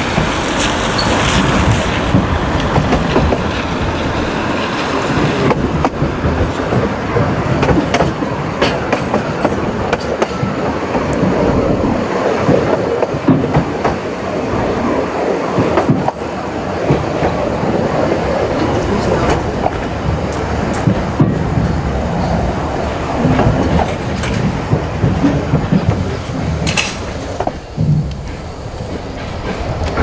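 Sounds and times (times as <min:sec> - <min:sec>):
train wheels clattering on track: 0:00.0 - 0:30.0.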